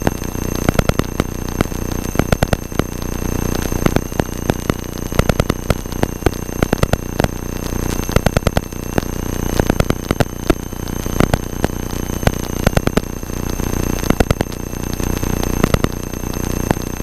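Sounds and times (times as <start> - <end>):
electrical interference clicks and buzz: 0.0 - 17.0
high-pitched whines: 0.0 - 17.0.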